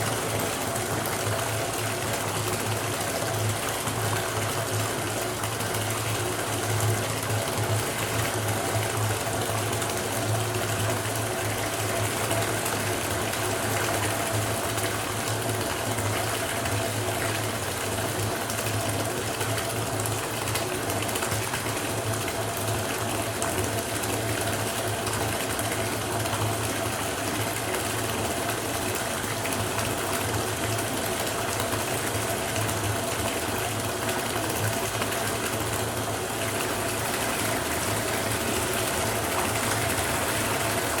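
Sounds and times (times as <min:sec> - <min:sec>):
tap water filling bathtub: 0:00.0 - 0:41.0.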